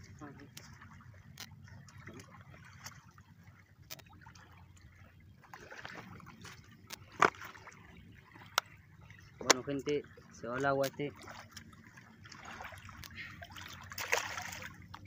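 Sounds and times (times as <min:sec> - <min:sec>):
river water trickling and lapping: 0:00.0 - 0:15.0.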